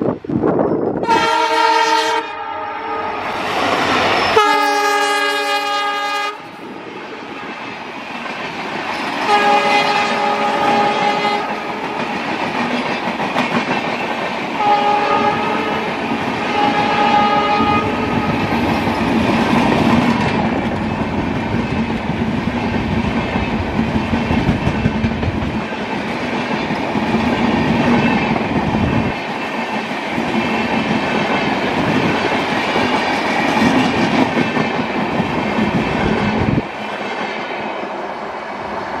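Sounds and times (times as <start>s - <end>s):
train wheels clattering past: 6.8s - 38.3s.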